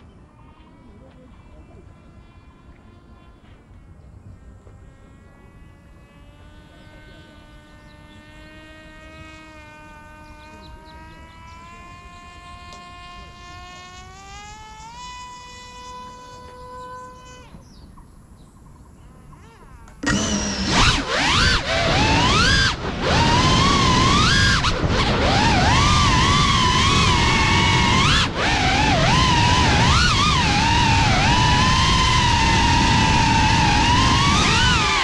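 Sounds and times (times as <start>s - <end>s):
faint whine of small motors: 0.0s - 35.0s
drone motors throttling up: 1.0s - 35.0s.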